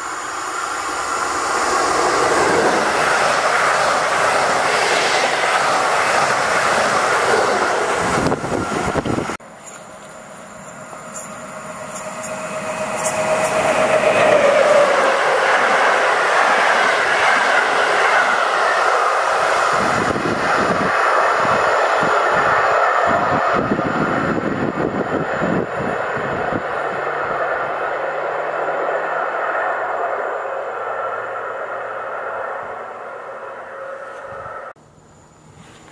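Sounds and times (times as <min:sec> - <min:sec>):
wheels rattling on rails: 0:00.0 - 0:34.7
train hum dropping in pitch: 0:00.0 - 0:35.4
electric train rumble: 0:00.0 - 0:35.9.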